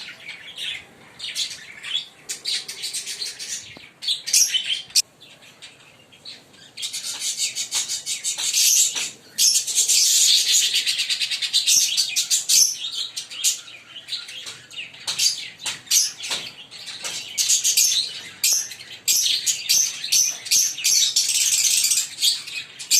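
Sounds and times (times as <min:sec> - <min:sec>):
lovebirds chirping: 0:00.0 - 0:22.9.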